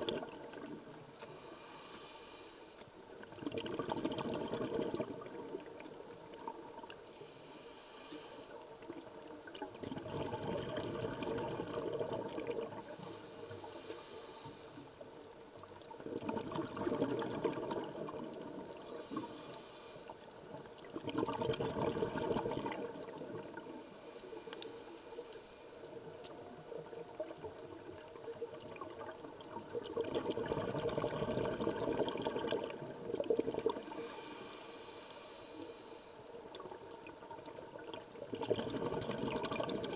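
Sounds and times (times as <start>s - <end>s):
underwater exhaled air bubbling: 0.0s - 39.9s.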